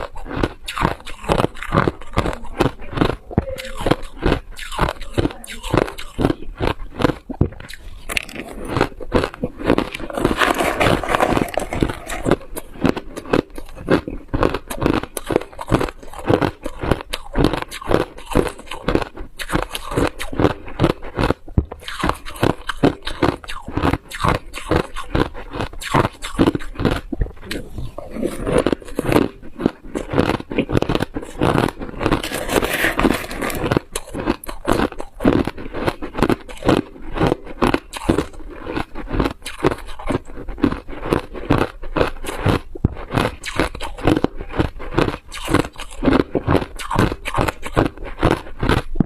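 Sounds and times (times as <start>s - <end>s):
person chewing ice crunches: 0.0s - 49.0s.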